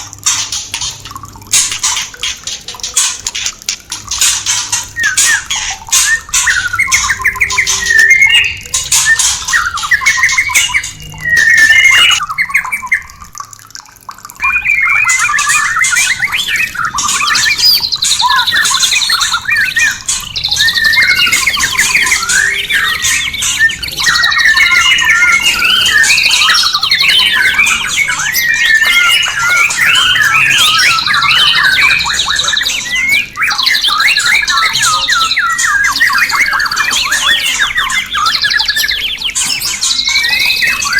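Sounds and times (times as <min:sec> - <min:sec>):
bird singing whistles and trills: 0:00.0 - 0:13.3, 0:14.4 - 0:40.9.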